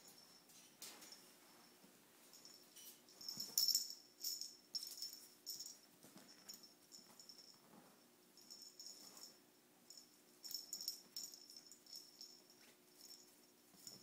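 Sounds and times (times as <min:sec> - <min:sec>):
small bell jingling: 0:00.0 - 0:14.0.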